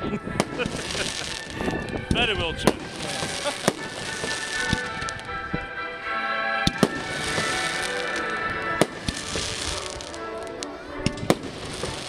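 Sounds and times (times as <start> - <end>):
fireworks bursting: 0.0 - 5.8, 6.6 - 12.0
music playing: 0.0 - 12.0.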